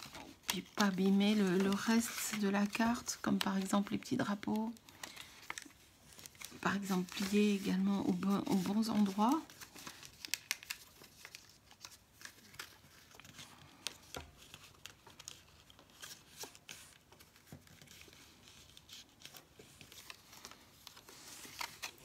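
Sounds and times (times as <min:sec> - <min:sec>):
card stock being folded: 0:00.0 - 0:22.0.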